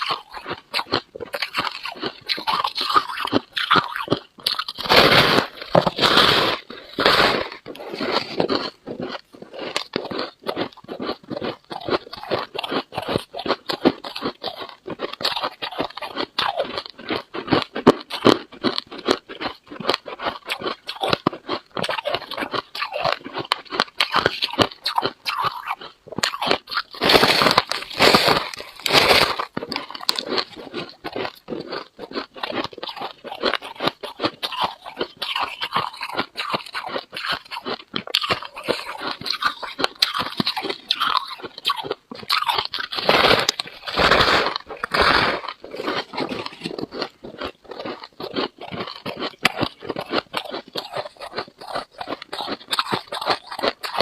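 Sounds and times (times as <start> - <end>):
frost being chewed: 0.0 - 54.0.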